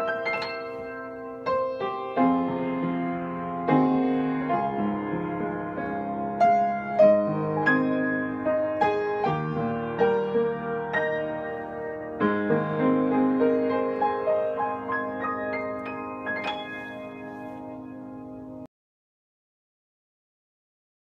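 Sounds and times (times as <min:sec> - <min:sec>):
gentle solo piano: 0:00.0 - 0:18.7.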